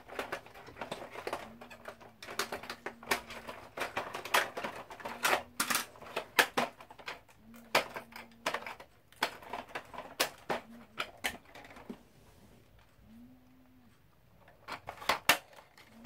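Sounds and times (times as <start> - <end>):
plastic toy parts clicking: 0.0 - 12.0, 14.4 - 16.0.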